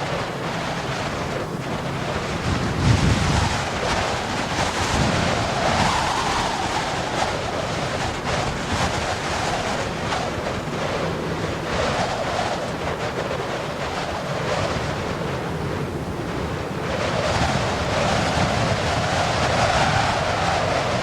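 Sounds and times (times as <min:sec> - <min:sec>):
strong wind gusts: 0:00.0 - 0:21.0
wind buffeting microphone: 0:00.0 - 0:21.0.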